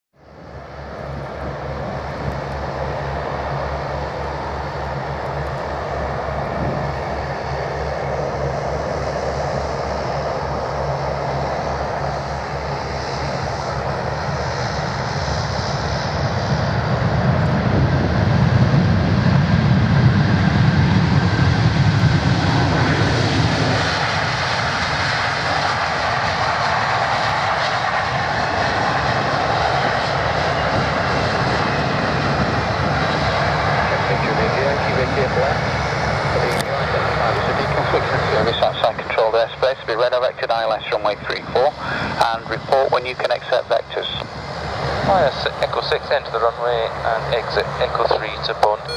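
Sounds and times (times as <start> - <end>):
jet engines of landing airliner: 0.2 - 48.9.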